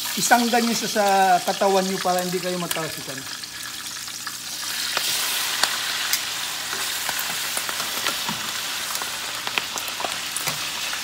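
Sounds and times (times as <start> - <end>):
meat sizzling in hot oil: 0.0 - 11.0
oil crackling and popping: 0.0 - 11.0.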